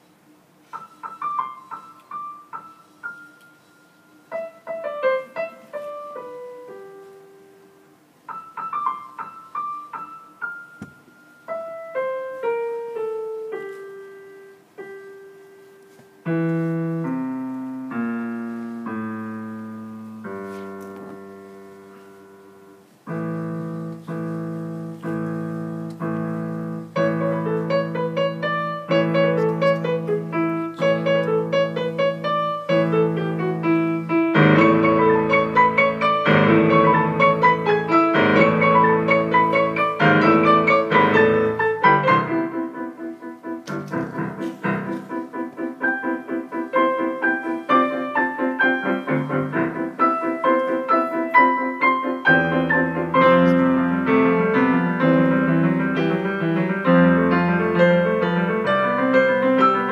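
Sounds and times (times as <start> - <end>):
grand piano playing: 0.7 - 59.9.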